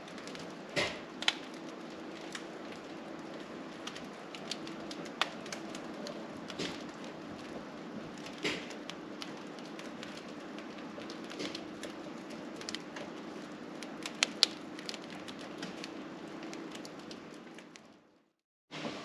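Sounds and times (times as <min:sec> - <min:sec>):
bread crust crackling: 0:00.0 - 0:18.2.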